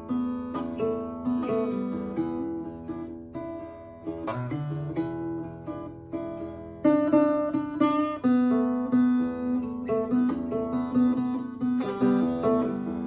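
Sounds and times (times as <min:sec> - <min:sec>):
acoustic guitar blues: 0:00.0 - 0:13.0.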